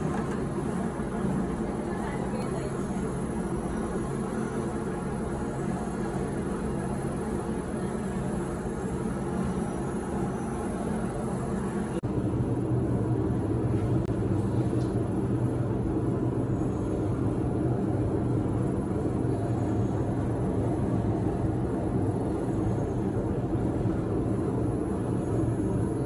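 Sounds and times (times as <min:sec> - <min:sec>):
faint droning hum: 0:00.0 - 0:26.0.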